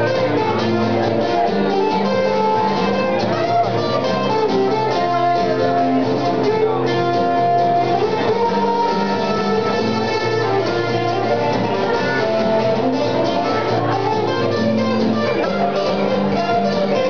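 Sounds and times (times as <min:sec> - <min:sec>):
acoustic guitar duo playing: 0:00.0 - 0:17.0.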